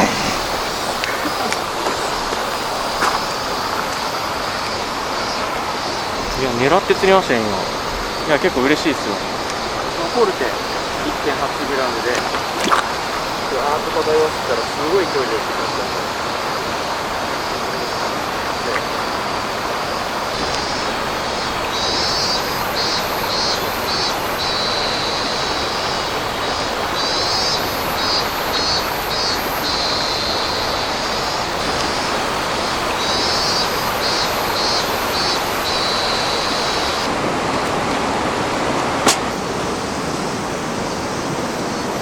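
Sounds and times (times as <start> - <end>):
insect song pulsing buzz: 0.0 - 42.0
river water flowing: 0.0 - 42.0.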